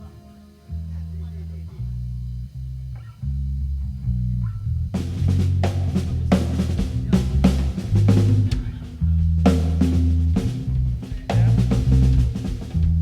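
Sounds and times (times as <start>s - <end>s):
electric bass riff: 0.0s - 13.0s.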